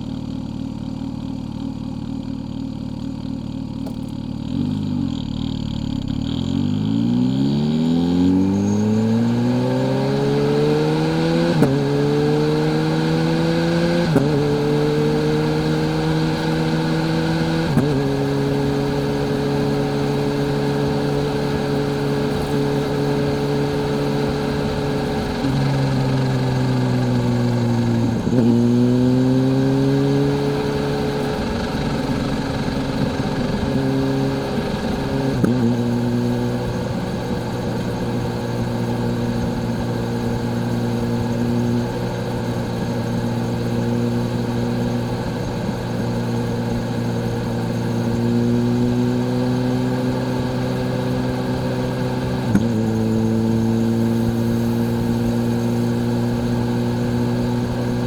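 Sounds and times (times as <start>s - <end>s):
motorcycle engine shifting up gears: 1.0s - 58.0s.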